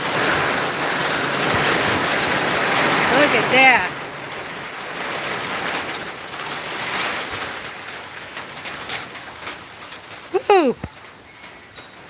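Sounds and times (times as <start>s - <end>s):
heavy rain hiss: 0.0s - 12.0s
raindrops ticking: 0.0s - 12.0s.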